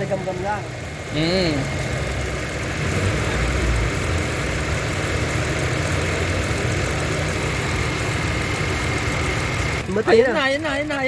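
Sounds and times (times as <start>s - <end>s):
air-conditioning compressor running: 0.0s - 11.0s
car engine idling: 0.0s - 11.0s.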